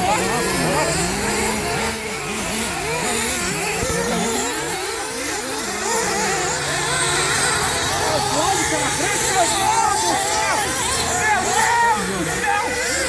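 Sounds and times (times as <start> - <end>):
rc buggy engines whining: 0.0 - 13.0.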